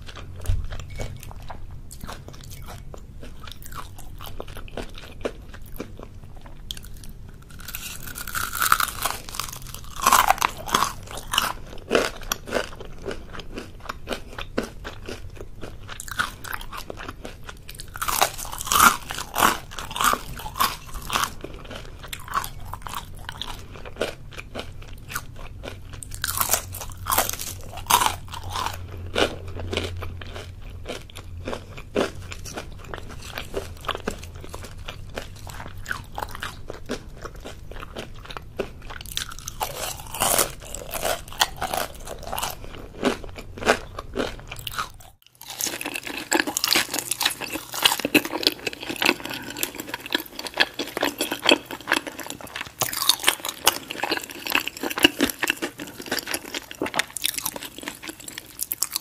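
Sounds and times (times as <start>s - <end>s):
crunching of battered fritters: 0.0s - 59.0s
quiet chewing: 0.0s - 59.0s.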